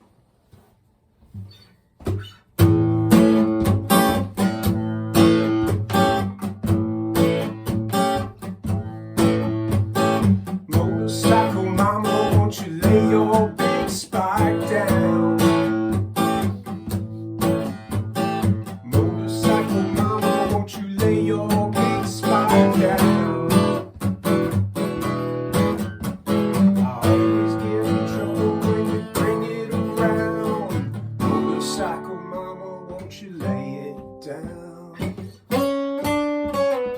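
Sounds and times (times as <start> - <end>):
acoustic guitar strumming: 1.4 - 36.9.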